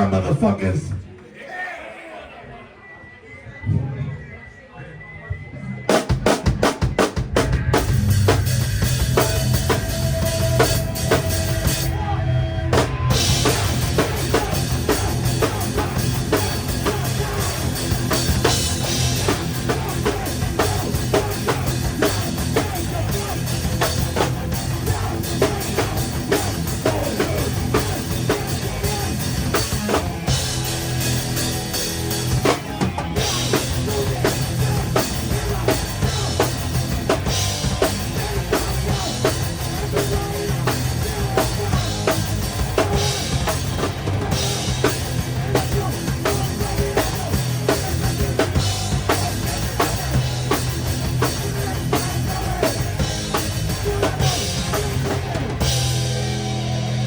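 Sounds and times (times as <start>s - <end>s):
drum kit: 5.9s - 57.0s
live rock band playing: 5.9s - 57.0s.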